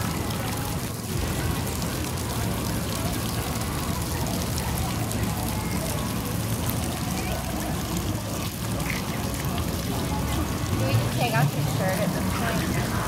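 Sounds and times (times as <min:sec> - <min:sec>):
fountain jets splashing on concrete: 0:00.0 - 0:13.0.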